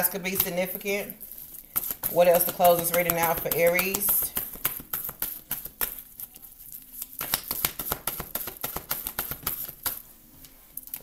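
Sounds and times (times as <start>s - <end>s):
cards being shuffled: 1.2s - 10.0s.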